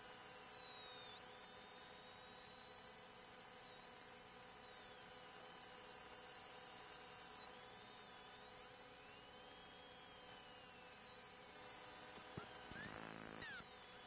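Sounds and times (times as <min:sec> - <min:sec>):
high-pitched electronic whine: 0:00.1 - 0:14.0.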